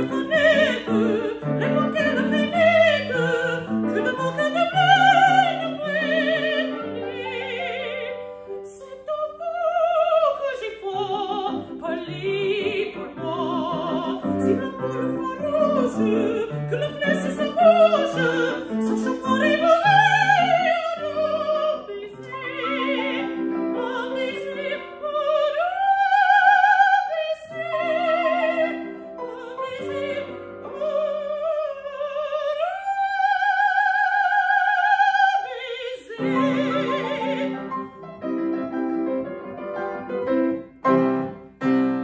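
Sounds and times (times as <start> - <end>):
woman singing opera: 0.0 - 38.4
grand piano: 0.0 - 42.0.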